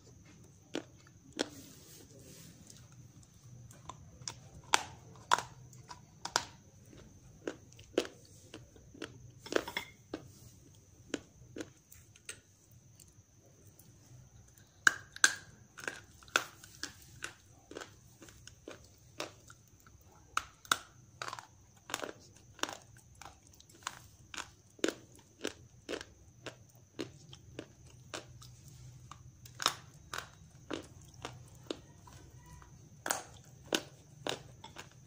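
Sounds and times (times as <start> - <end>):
clay chunks crunching when chewed: 0.0 - 35.0.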